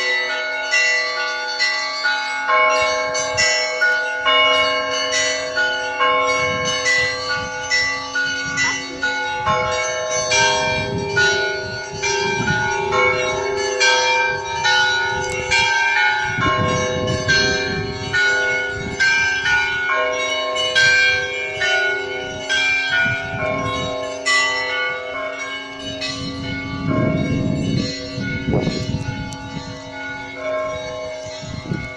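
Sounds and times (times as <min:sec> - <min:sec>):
church bells ringing: 0:00.0 - 0:31.9
hum of larger bells: 0:00.0 - 0:31.9.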